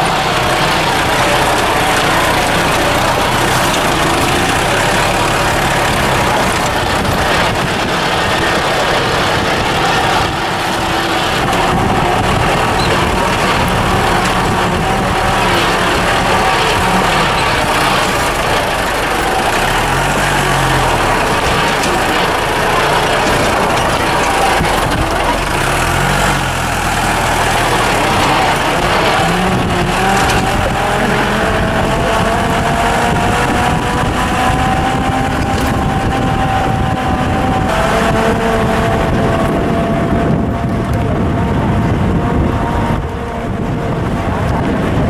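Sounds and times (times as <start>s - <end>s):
road and wind noise: 0.0s - 45.0s
vehicle engine running: 0.0s - 45.0s.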